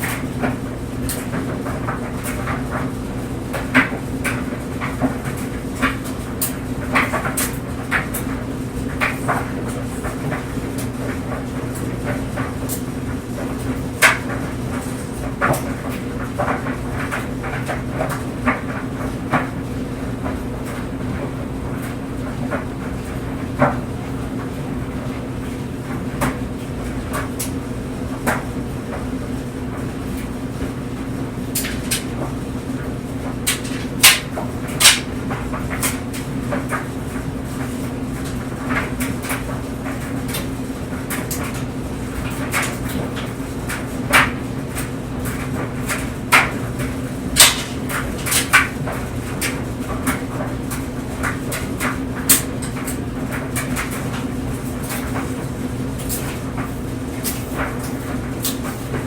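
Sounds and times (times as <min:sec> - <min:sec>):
clothes dryer humming: 0:00.0 - 0:59.0
clothes knocking in dryer drum: 0:00.0 - 0:59.0.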